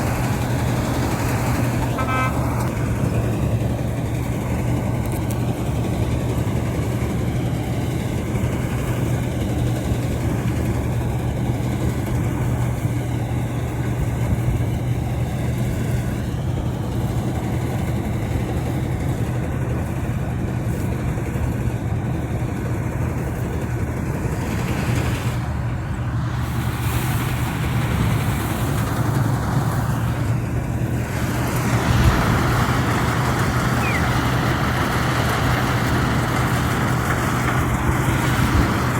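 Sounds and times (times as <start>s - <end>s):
harvester engine humming: 0.0s - 38.9s.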